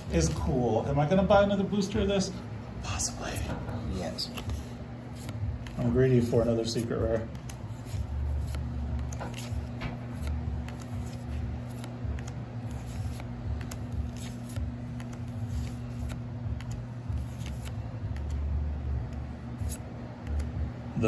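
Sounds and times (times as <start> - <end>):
cards rustling and clicking: 3.0 - 21.0.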